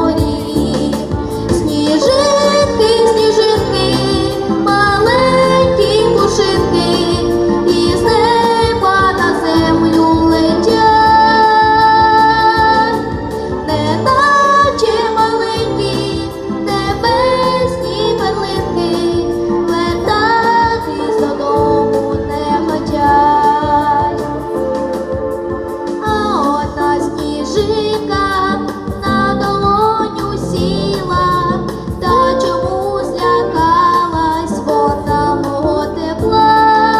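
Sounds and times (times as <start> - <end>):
woman singing: 0.0 - 24.6, 26.0 - 36.9
backing track with steady beat: 0.0 - 36.9.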